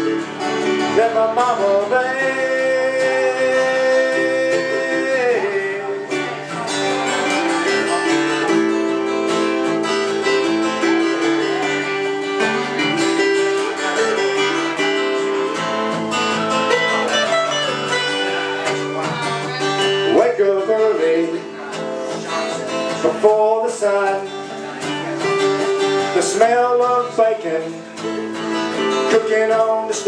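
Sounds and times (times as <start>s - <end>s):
acoustic guitars strumming: 0.0s - 30.0s.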